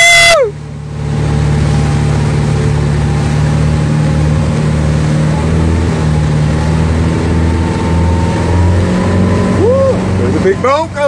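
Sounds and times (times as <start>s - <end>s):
boat engine droning: 0.0s - 11.0s
water and wind rushing: 0.0s - 11.0s.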